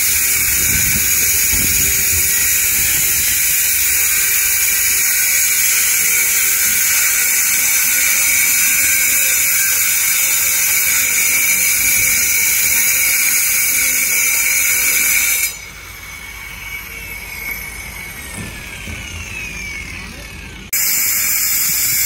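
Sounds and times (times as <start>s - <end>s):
angle grinder cutting concrete: 0.0s - 18.8s
blade spinning down whine: 0.0s - 22.0s.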